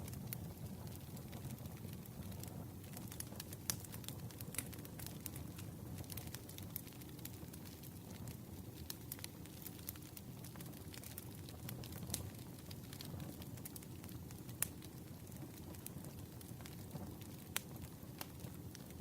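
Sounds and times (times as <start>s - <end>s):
campfire rumble: 0.0s - 19.0s
fire crackles and pops: 0.0s - 19.0s.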